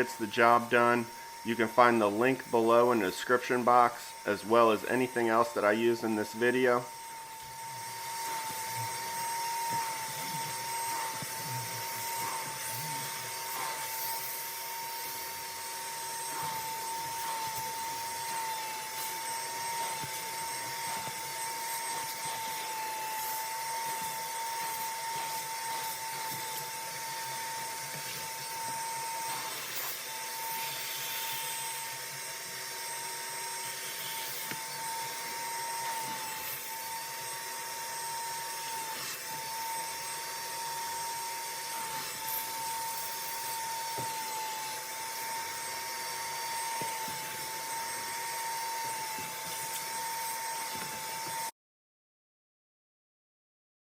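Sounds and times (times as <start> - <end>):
carpet extractor motor whining: 0.0 - 51.5
suction hiss: 0.0 - 51.5.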